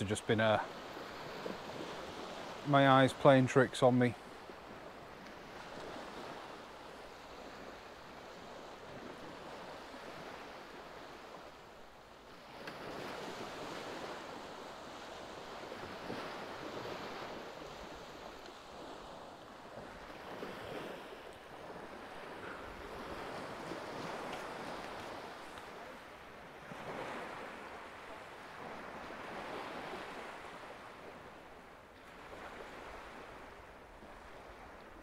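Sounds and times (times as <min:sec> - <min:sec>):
sea surf washing onto beach: 0:00.0 - 0:35.0.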